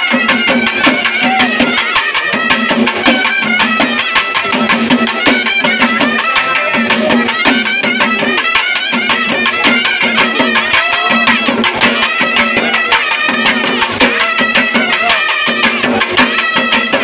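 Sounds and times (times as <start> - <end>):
drums and cymbals: 0.0 - 17.0
shrill double-reed pipe: 0.0 - 17.0.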